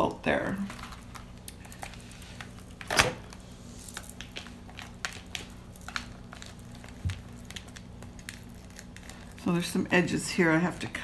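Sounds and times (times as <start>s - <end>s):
steady low hum: 0.0s - 11.0s
silicone mat crackling: 0.6s - 9.8s.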